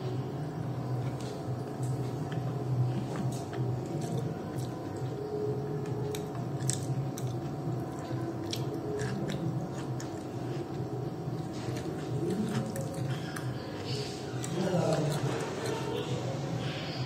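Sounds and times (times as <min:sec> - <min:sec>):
steady low hum: 0:00.0 - 0:17.0
person chewing and lip smacking: 0:01.0 - 0:16.4.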